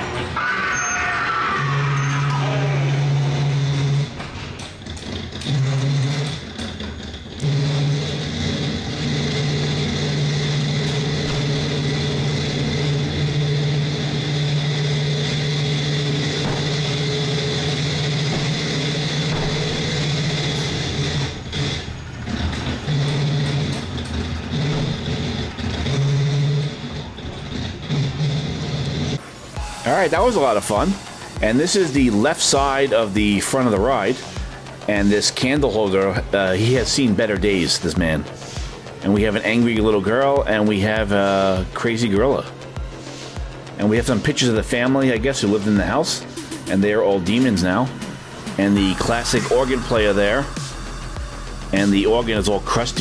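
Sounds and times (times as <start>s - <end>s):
ride car running along track: 0.0s - 53.0s.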